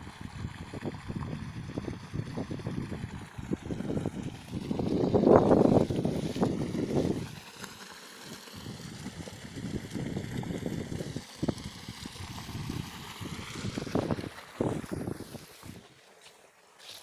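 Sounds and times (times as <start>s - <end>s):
wind buffeting microphone: 0.0s - 7.5s, 8.5s - 15.9s.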